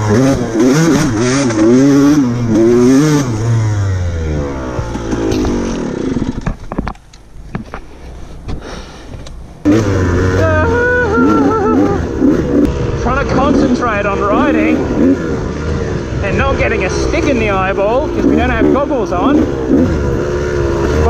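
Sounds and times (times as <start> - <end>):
dirt bike engine revving: 0.0 - 6.7, 9.5 - 21.0.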